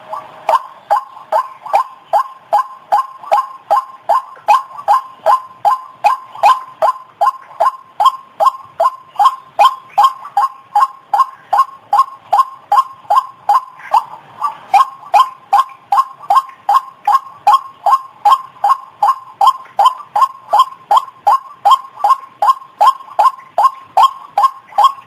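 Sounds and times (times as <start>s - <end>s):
waterhen call recording: 0.0s - 25.0s.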